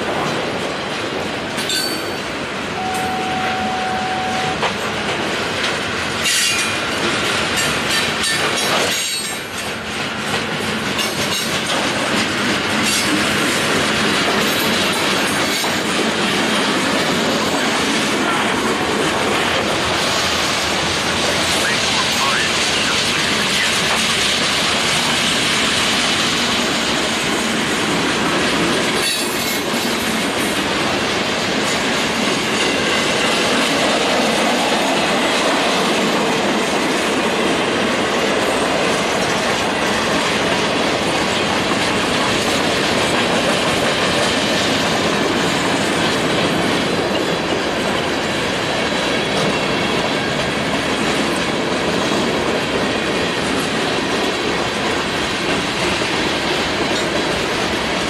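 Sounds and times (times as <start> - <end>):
steel wheels on rail: 0.0 - 58.0.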